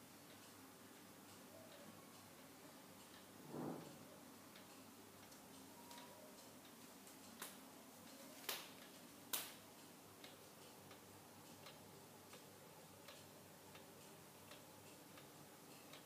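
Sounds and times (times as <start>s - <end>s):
wall clock ticking: 0.0s - 16.0s.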